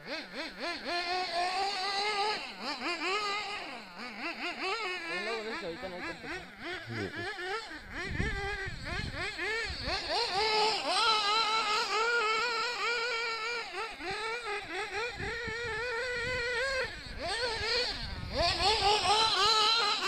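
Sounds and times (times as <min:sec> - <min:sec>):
toy car motor revving: 0:00.0 - 0:20.0.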